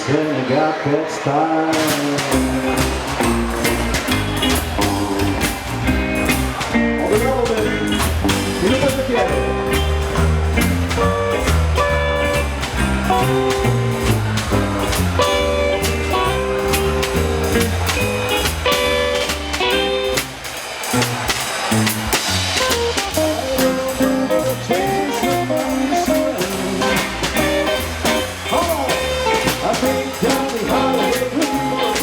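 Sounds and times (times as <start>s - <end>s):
drum hits: 1.7s - 32.0s
live rockabilly band playing: 1.7s - 32.0s
guitar notes: 2.1s - 32.0s
bass line: 2.2s - 32.0s.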